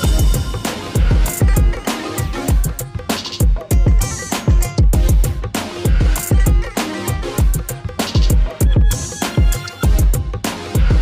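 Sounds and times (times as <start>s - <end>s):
drum kit: 0.0s - 11.0s.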